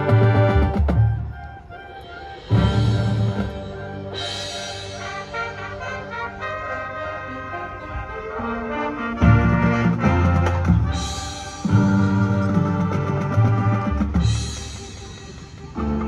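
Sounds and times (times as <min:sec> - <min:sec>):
brass sustained chords: 0:00.0 - 0:16.0
marching band playing: 0:00.0 - 0:16.0.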